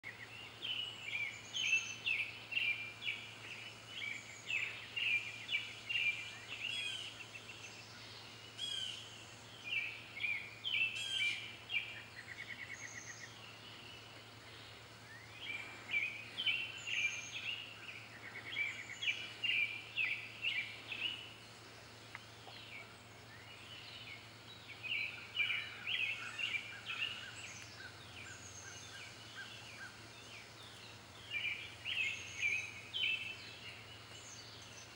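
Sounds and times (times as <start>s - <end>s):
faint low hum: 0.0s - 34.9s
songbirds chirping: 0.0s - 34.9s.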